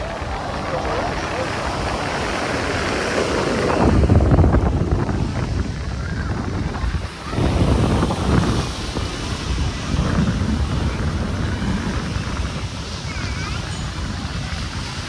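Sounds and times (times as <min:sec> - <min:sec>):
faint voices: 0:00.0 - 0:15.0
surf washing ashore: 0:00.0 - 0:15.0
wind buffeting microphone: 0:00.0 - 0:15.0.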